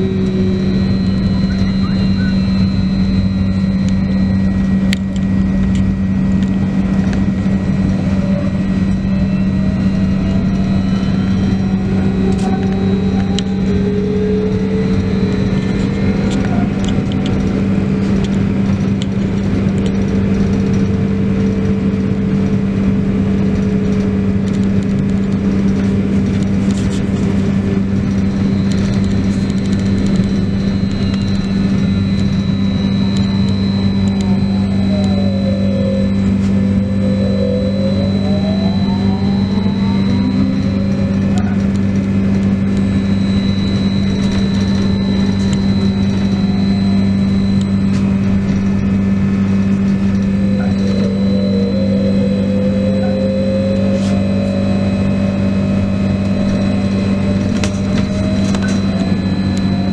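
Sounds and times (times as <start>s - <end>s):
electric motor whine: 0.0s - 59.9s
electrical hum: 0.0s - 59.9s
road noise: 0.0s - 59.9s.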